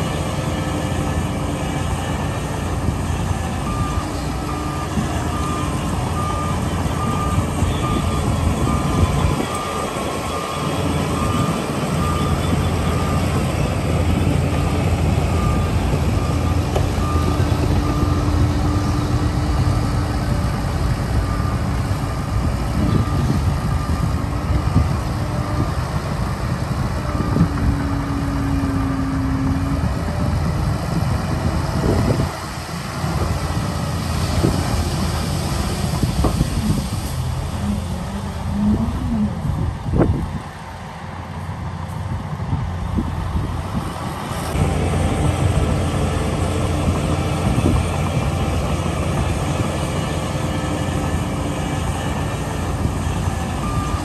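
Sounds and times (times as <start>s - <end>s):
dump truck diesel engine: 0.0s - 54.0s.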